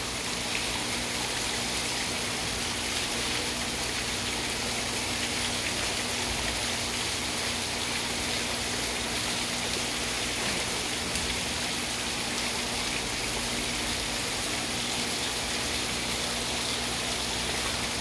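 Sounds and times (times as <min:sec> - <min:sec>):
waterfall splashing into pond: 0:00.0 - 0:18.0.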